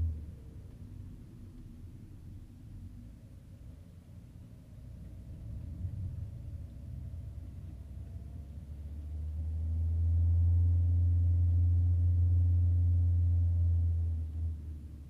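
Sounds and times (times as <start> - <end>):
car cabin drone: 0.0 - 15.0.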